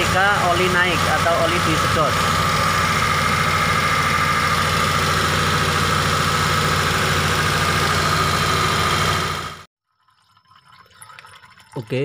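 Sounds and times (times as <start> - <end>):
engine running: 0.0 - 9.7.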